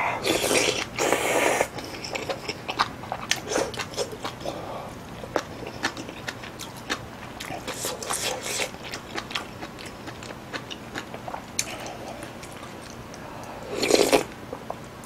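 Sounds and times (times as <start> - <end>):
person chewing with lip smacks: 0.2 - 13.2.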